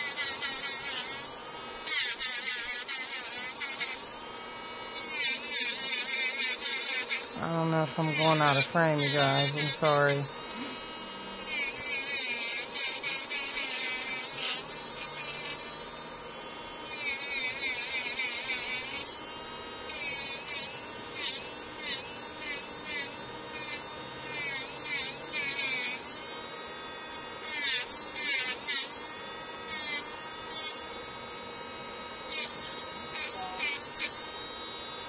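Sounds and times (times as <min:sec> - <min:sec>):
drill bit grinding nail: 0:00.0 - 0:15.9, 0:16.8 - 0:35.0
electric nail drill whining: 0:00.0 - 0:35.0.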